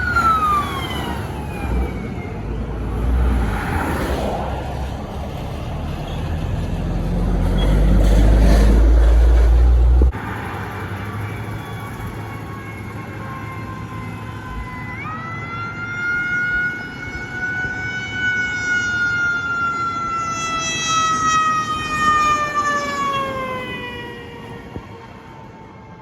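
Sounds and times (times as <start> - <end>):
fire engine siren passing: 0.0 - 26.0
traffic noise: 0.0 - 26.0.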